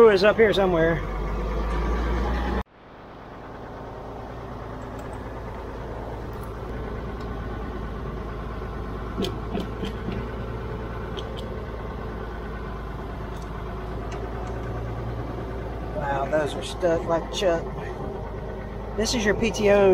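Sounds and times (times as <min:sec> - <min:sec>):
tractor engine idling: 0:00.0 - 0:19.9.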